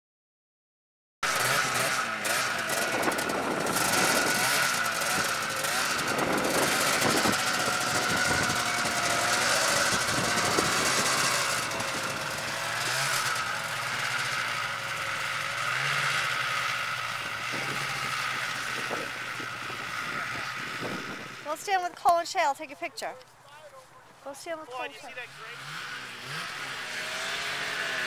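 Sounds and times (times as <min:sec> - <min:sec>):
snowmobile engine running: 0:01.2 - 0:22.8, 0:24.3 - 0:28.0.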